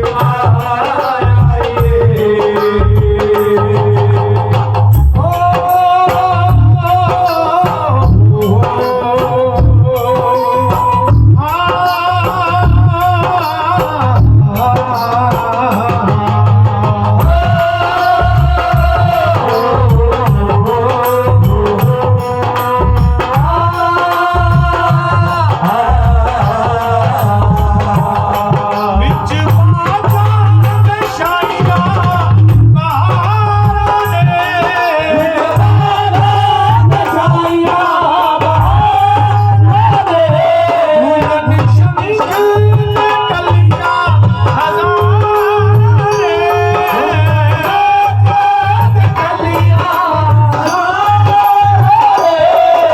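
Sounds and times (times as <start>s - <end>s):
bass and percussion beat: 0.0s - 52.9s
person singing with vibrato: 0.0s - 52.9s.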